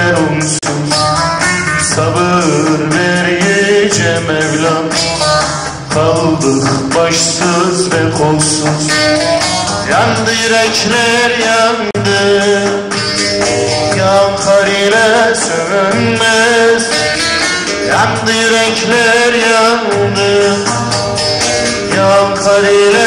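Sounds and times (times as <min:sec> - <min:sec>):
man singing: 0:00.0 - 0:23.0.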